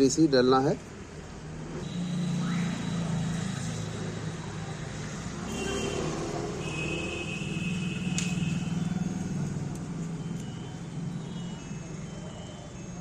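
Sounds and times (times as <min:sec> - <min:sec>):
vehicle engine running: 0:01.8 - 0:12.5.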